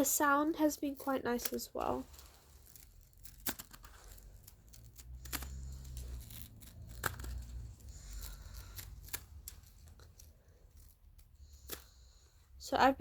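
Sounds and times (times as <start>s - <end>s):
slinky coils clicking: 1.0s - 12.0s.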